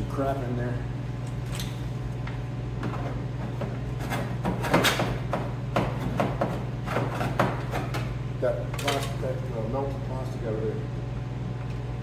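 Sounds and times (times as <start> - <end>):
furnace humming: 0.0 - 12.0.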